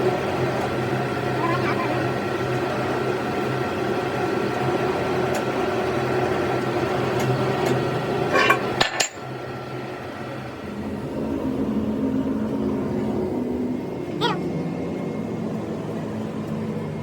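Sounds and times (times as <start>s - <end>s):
workshop machine hum: 0.0s - 17.0s.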